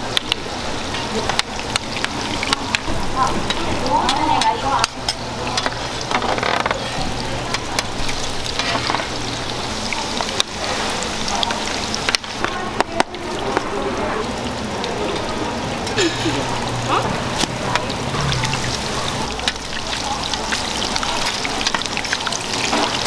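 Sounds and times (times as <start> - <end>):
cooking utensils clicking and scraping: 0.0 - 14.0, 14.8 - 23.0
pancakes sizzling in oil: 0.0 - 23.0.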